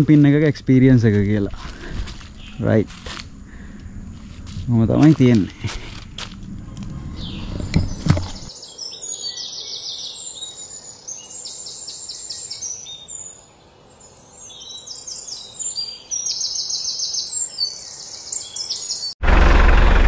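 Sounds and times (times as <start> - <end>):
birds chirping in trills: 0.7 - 19.2.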